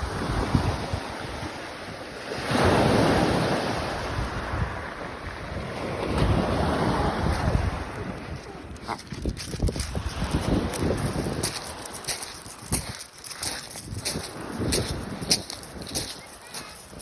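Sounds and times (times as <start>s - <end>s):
wind rumbling on microphone: 0.0s - 1.6s, 2.6s - 17.0s
surf on pebble beach: 0.0s - 17.0s.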